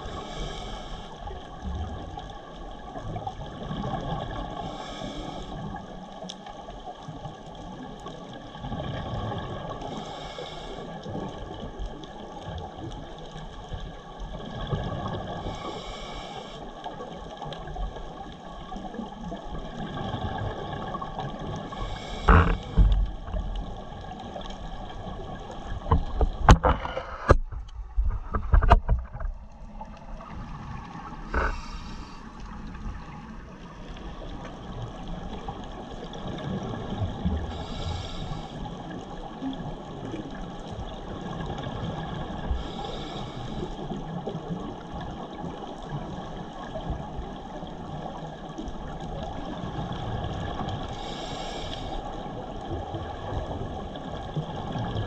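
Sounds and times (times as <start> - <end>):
underwater hum with faint whine: 0.0 - 55.0.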